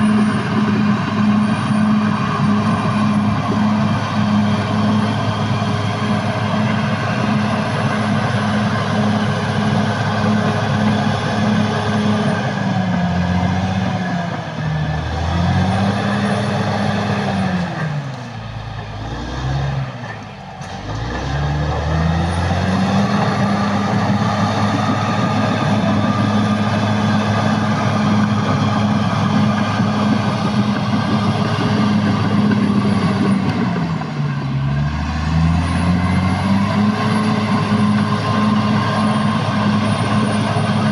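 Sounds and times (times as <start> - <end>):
bulldozer diesel engine revving: 0.0 - 40.9.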